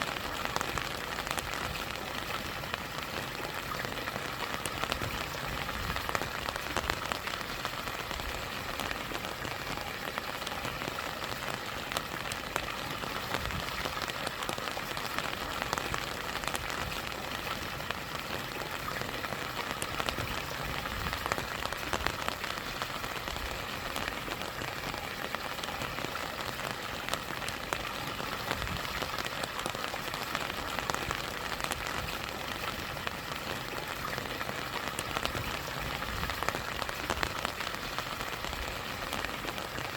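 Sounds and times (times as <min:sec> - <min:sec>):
rain drops ticking: 0:00.0 - 0:39.9
stream rushing down waterfall: 0:00.0 - 0:39.9.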